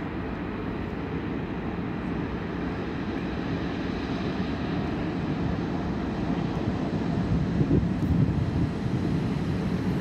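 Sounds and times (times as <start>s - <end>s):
train rumbling drone: 0.0s - 10.0s.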